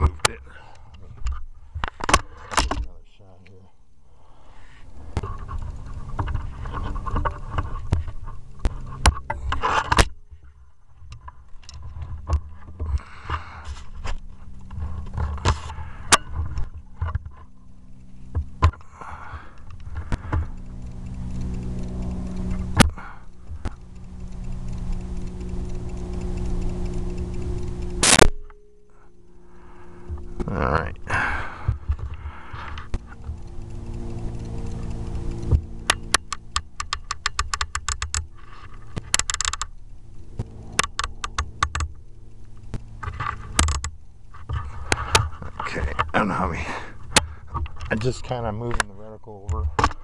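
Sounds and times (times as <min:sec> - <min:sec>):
steady hum: 0:00.0 - 0:50.0
loud rattle: 0:04.9 - 0:50.0.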